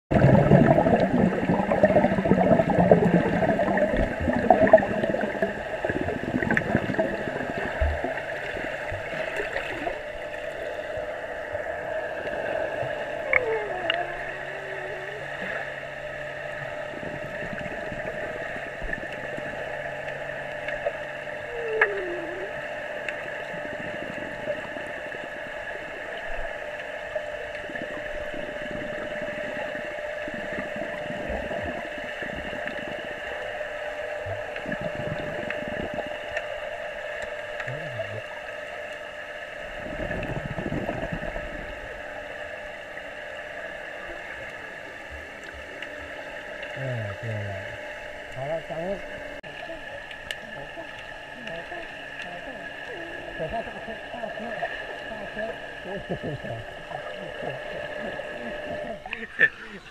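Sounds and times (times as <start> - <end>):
muffled underwater hum: 0.1 - 59.9
underwater bubbling and splashing: 0.1 - 59.9.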